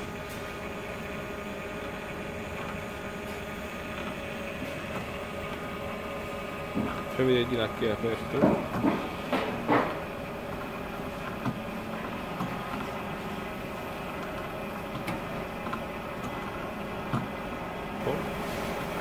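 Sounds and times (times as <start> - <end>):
recycling machine motor hum: 0.0 - 19.0.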